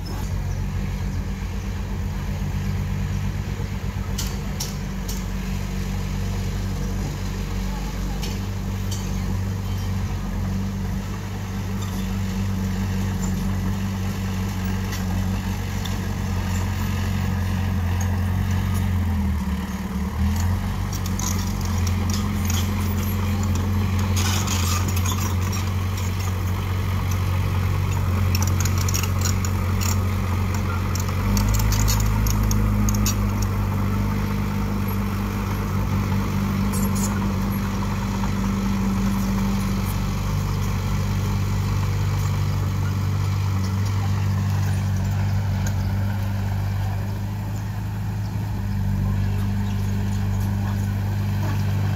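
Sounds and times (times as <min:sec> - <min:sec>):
bulldozer diesel engine: 0:00.0 - 0:51.9.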